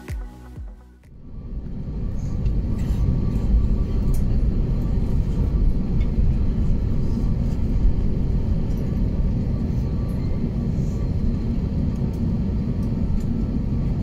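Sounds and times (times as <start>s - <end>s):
jet airliner rumble: 1.1s - 14.0s.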